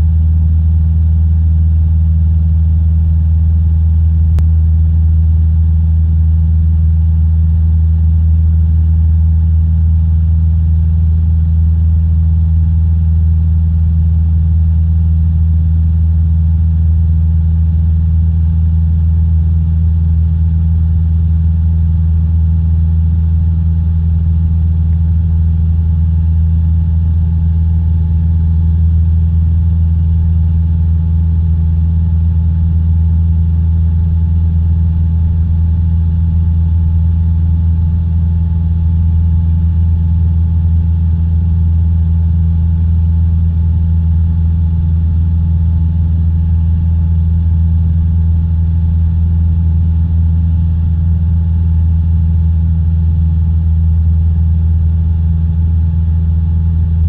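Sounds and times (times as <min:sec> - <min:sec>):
light aircraft engine hum: 0:00.0 - 0:52.1.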